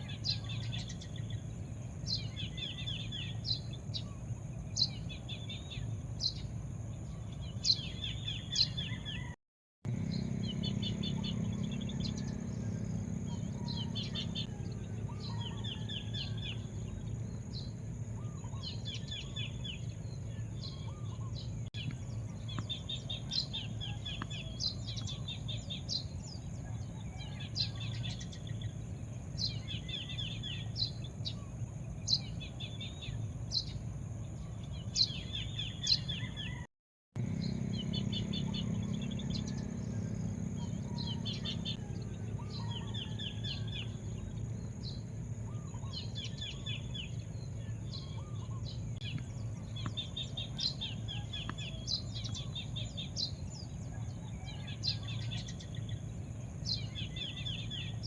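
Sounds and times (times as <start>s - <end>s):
birds chirping: 0.0s - 58.0s
low background rumble: 9.9s - 36.4s, 37.2s - 58.0s.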